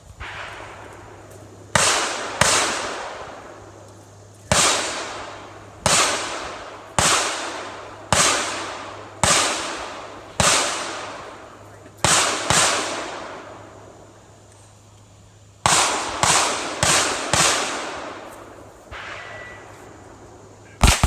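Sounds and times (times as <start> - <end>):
pistol shots echoing: 0.2 - 13.9, 15.6 - 19.7, 20.8 - 21.0.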